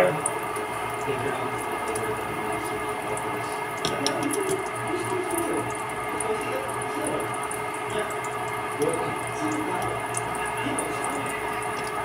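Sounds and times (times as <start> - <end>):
oil sizzling in a frying pan: 0.0 - 12.0
steady hum: 0.0 - 12.0.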